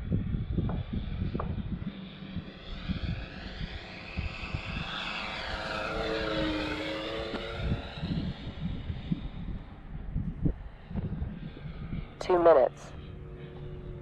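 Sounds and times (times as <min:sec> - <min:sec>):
model plane propeller hum: 0:00.0 - 0:14.0.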